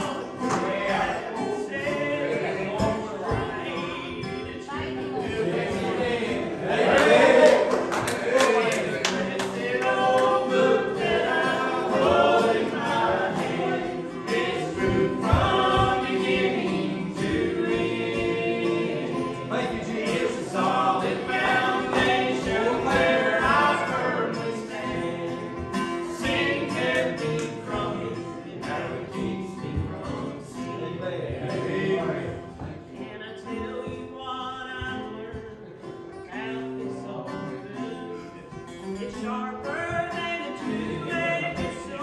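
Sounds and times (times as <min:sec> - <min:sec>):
choir singing a gospel song: 0:00.0 - 0:35.2, 0:36.3 - 0:42.0.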